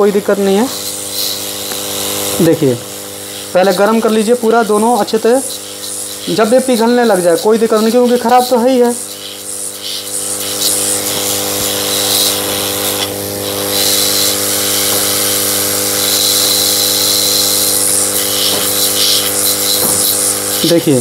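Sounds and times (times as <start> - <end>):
hot air gun running: 0.0 - 21.0.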